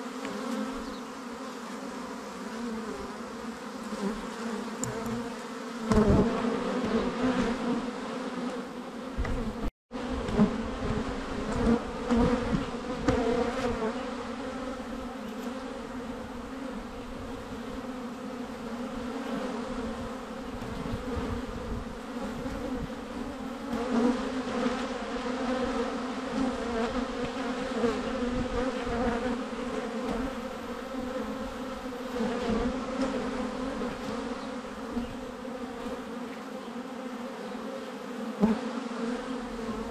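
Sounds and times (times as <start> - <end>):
honey bees humming: 0.0 - 39.9.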